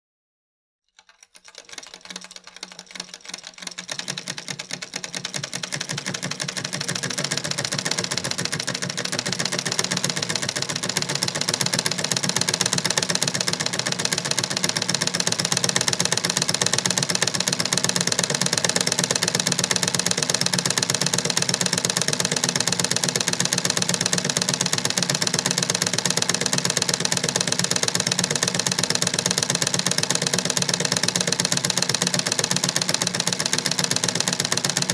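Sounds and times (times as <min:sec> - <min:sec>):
sewing machine clattering: 0:00.9 - 0:34.9.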